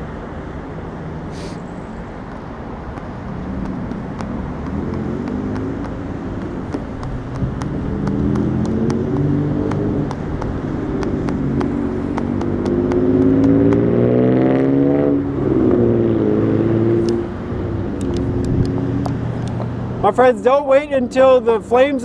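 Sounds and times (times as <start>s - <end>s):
road traffic: 0.0s - 22.0s
vehicle engine accelerating: 1.6s - 20.1s.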